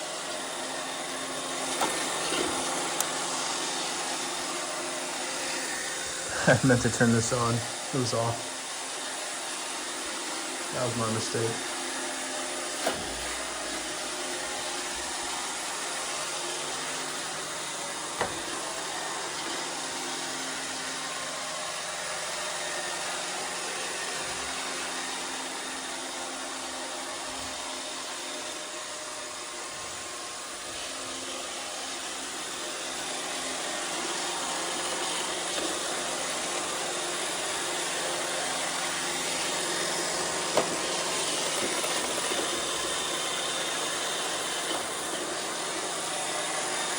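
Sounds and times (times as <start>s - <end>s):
robot vacuum whirring: 0.0s - 46.9s.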